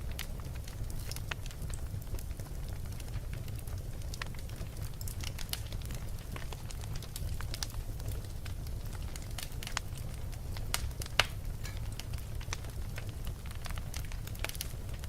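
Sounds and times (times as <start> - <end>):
fire crackling and popping: 0.0 - 15.0
low rumble of fire: 0.0 - 15.0.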